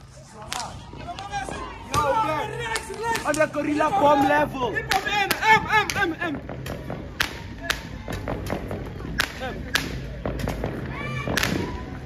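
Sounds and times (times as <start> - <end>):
fireworks and firecrackers banging: 0.5 - 12.0.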